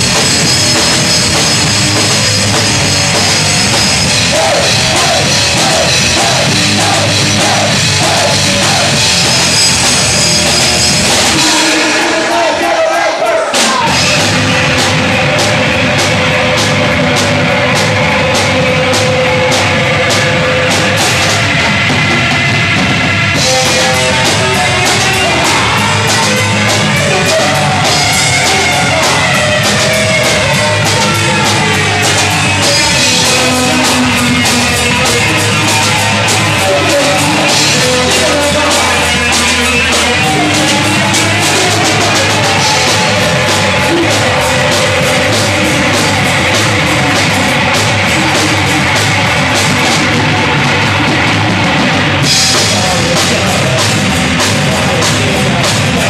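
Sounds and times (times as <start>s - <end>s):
bass guitars: 0.0s - 56.0s
punk band playing live: 0.0s - 56.0s
steady drum beat: 0.0s - 56.0s.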